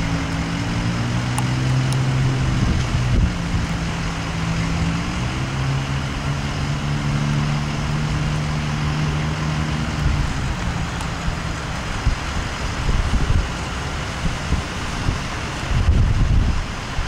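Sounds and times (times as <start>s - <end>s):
outdoor background rush: 0.0s - 17.0s
vehicle engine humming: 0.0s - 17.0s.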